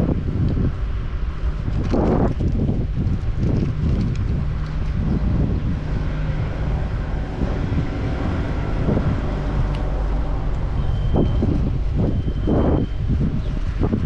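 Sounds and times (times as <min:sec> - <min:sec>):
vehicle humming: 0:00.0 - 0:14.0
wind buffeting microphone: 0:00.0 - 0:14.0.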